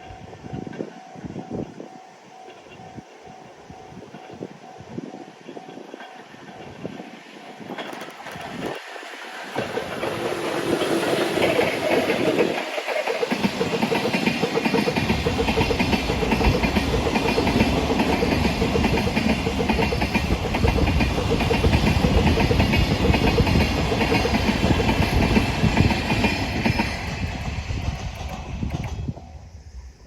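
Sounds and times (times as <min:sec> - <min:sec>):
train wheels clattering on rails: 0:00.0 - 0:29.6.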